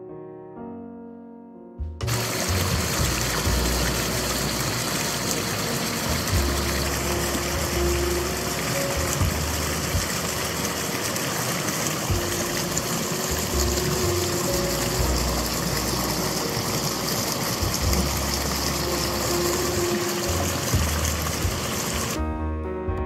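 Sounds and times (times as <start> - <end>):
stream splashing over rocks: 2.0 - 22.2.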